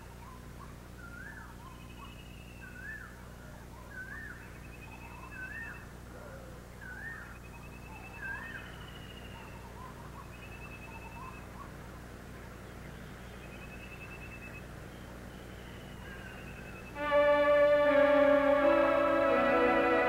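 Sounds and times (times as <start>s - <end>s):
warbled bird calls: 0.0s - 17.0s
birds calling: 0.0s - 20.0s
steady low hum: 0.0s - 20.0s.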